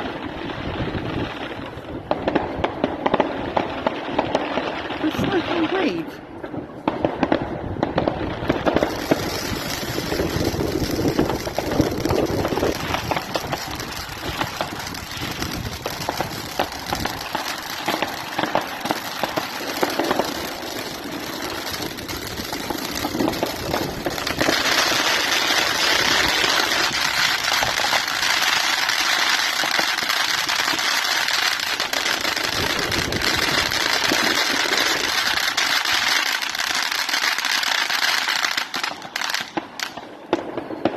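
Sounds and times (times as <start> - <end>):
fireworks bangs and crackle: 0.0 - 40.9.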